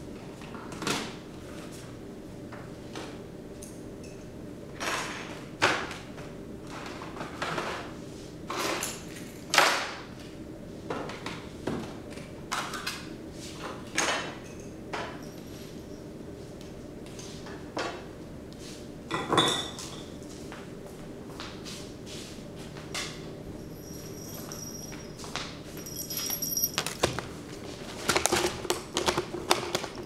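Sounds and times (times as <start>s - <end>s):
room hum: 0.0s - 30.0s.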